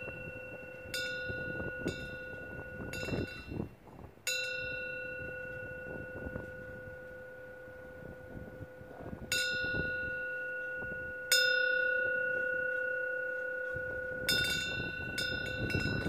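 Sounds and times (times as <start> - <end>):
faint wind rumble: 0.0 - 16.0
wind bell ringing: 0.0 - 16.0.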